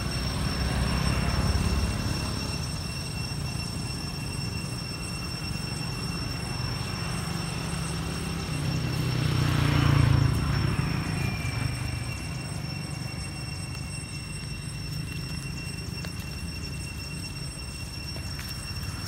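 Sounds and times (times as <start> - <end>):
vehicle engine rumble passing: 0.0 - 4.2, 6.1 - 19.0.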